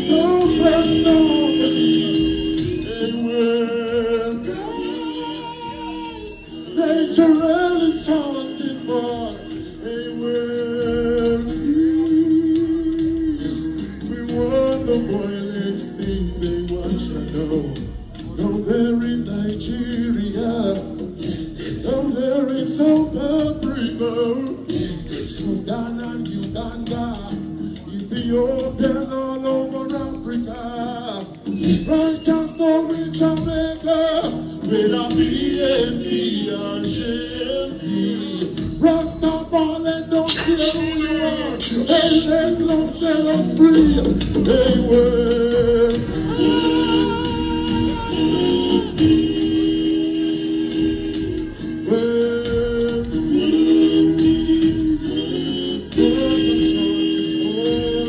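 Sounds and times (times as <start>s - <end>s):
backing music track: 0.0s - 58.0s
man singing into a microphone: 0.0s - 58.0s.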